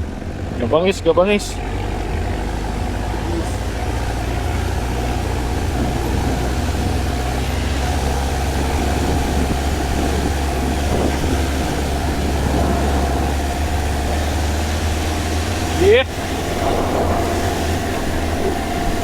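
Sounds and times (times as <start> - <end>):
driving noise: 0.0 - 19.0
vehicle engine running: 0.0 - 19.0.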